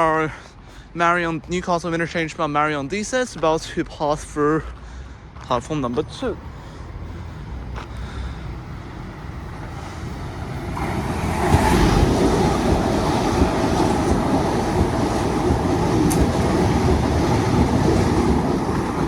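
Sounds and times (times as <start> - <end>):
train passing through station: 0.0 - 19.0.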